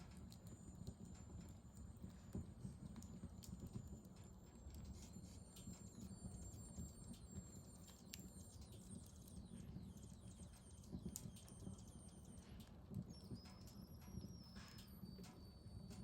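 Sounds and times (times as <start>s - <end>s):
low rumble of burning: 0.0s - 16.0s
wood fire crackling and popping: 0.1s - 15.0s.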